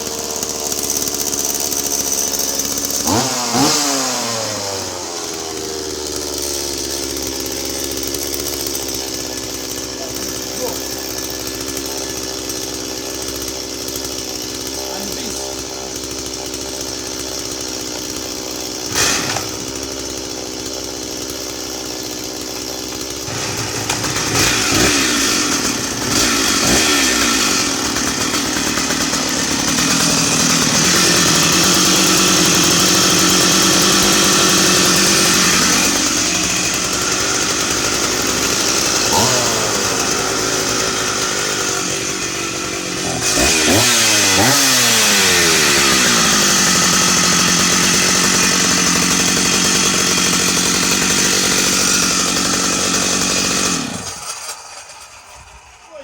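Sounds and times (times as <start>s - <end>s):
chainsaw engine idling and revving: 0.0s - 56.0s.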